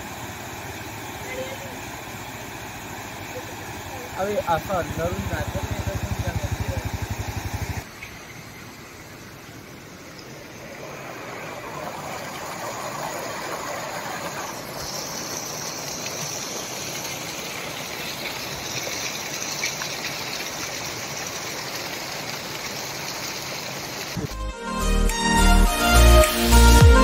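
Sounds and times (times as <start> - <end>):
stream water rushing and splashing: 0.0 - 24.3.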